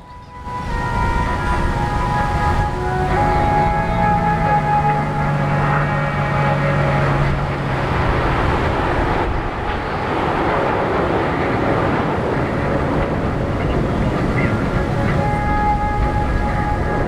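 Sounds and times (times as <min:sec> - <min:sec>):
public address music: 0:00.0 - 0:10.2, 0:12.4 - 0:17.0
jets flying past: 0:00.7 - 0:17.0.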